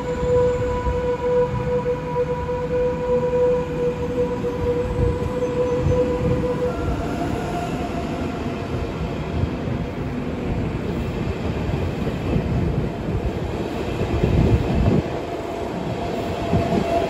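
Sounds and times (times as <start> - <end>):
electric train whine: 0.0 - 17.0
train running rumble: 0.0 - 17.0.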